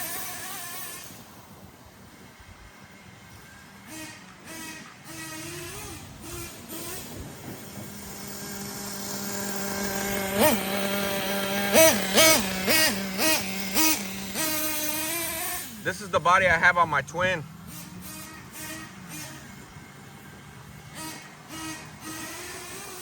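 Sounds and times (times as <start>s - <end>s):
nitro engine idling and revving: 0.0s - 23.0s.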